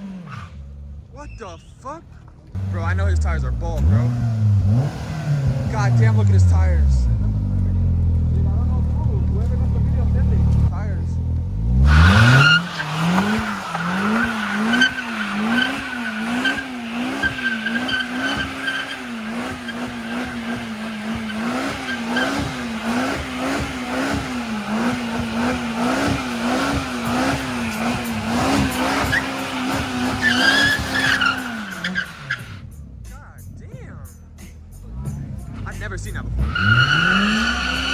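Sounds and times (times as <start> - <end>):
engine revving hard: 0.0 - 0.7, 2.6 - 32.8, 34.8 - 37.9
tires skidding and squealing: 0.0 - 1.6, 2.5 - 10.9, 11.5 - 32.7, 34.8 - 37.9.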